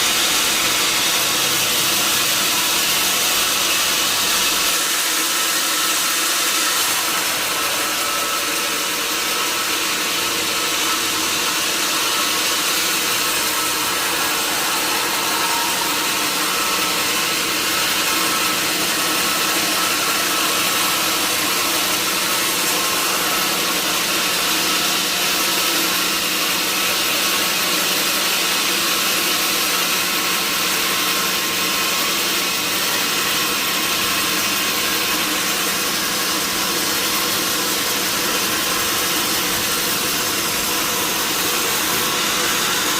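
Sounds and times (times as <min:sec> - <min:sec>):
sawmill saw running: 0:00.0 - 0:42.9.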